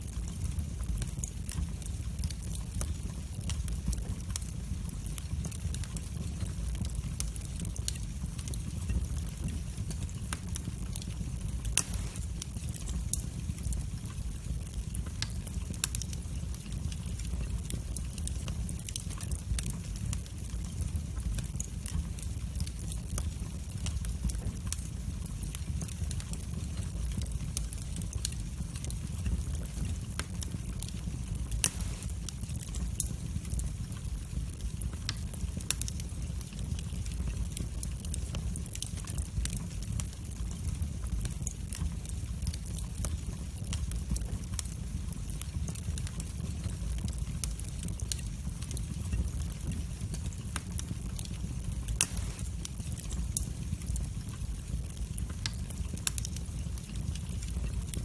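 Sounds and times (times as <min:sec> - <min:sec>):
fire crackles and pops: 0:00.0 - 0:58.0
fire flames rumbling: 0:00.0 - 0:58.0.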